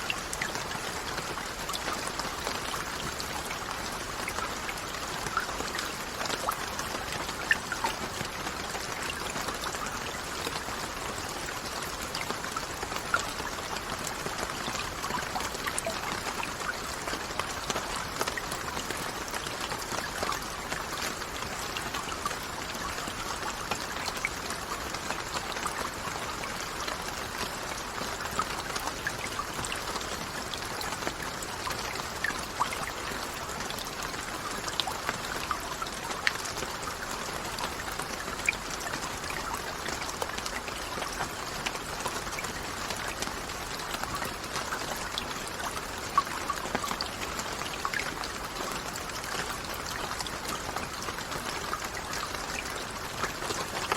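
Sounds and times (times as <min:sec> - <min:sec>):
raindrops pattering on a surface: 0:00.0 - 0:53.9
steady rain hissing: 0:00.0 - 0:53.9.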